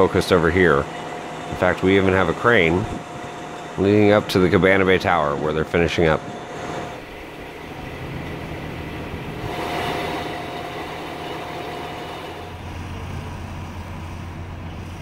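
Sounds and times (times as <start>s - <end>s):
faint engine whine: 0.0s - 15.0s
low engine hum: 0.0s - 15.0s.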